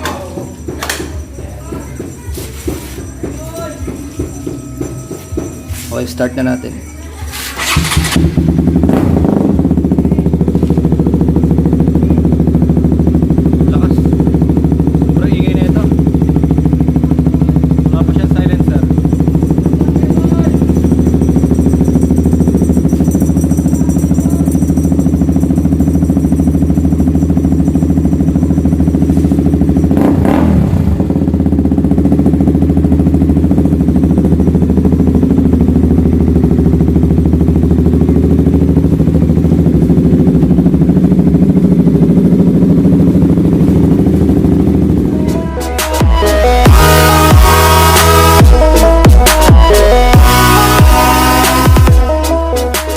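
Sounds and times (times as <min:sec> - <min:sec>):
loud motorcycle engine idling: 0:00.0 - 0:52.9.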